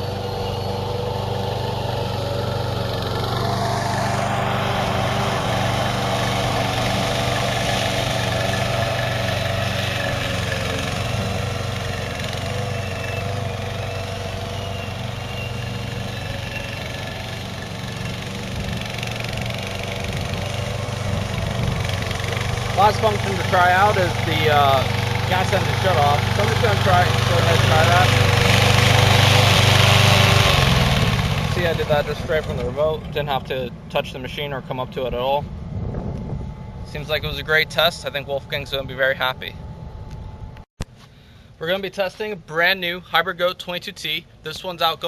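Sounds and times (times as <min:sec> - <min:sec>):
mower engine running: 0:00.0 - 0:40.6.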